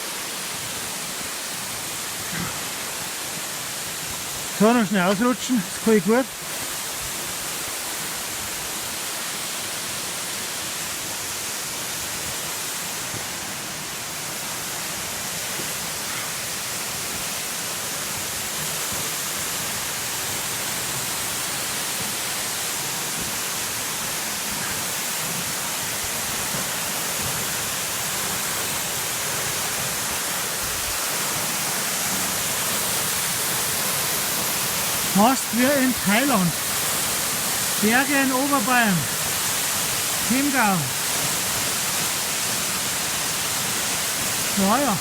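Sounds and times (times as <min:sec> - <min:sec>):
small waterfall rushing: 0:00.0 - 0:45.0.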